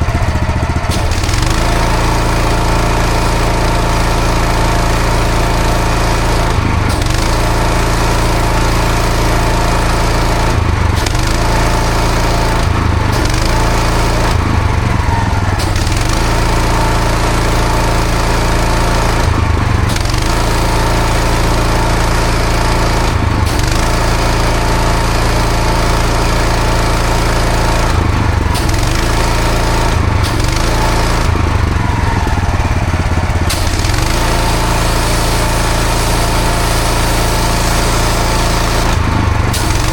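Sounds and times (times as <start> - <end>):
pressure washer engine running: 0.0 - 39.9
high-pressure water spray hiss: 0.9 - 39.9.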